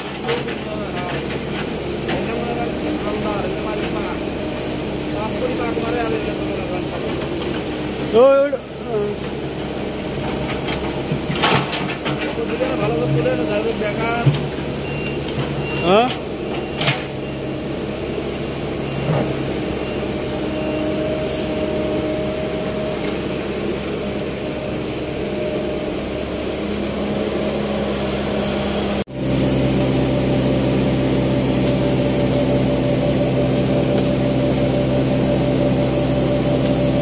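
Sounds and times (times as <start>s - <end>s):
excavator diesel engine: 0.0s - 37.0s.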